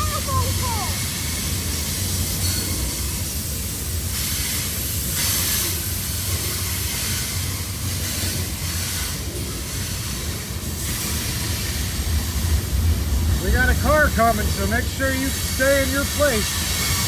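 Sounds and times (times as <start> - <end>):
freight train cars rolling past: 0.0 - 17.0.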